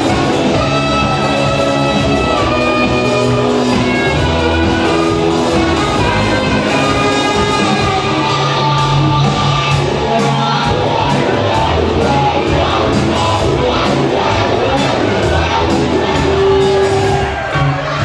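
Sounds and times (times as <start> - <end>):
bass: 0.0 - 18.0
electric guitars: 0.0 - 18.0
keyboards: 0.0 - 18.0
steady drum beat: 0.0 - 18.0.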